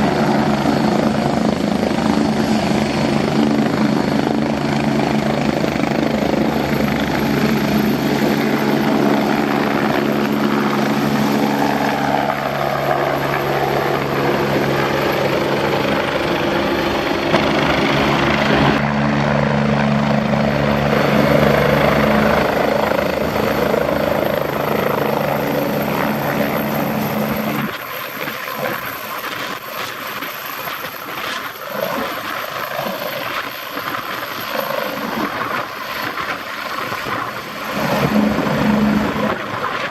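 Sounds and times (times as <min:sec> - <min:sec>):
helicopter turbine and rotor drone: 0:00.0 - 0:39.9.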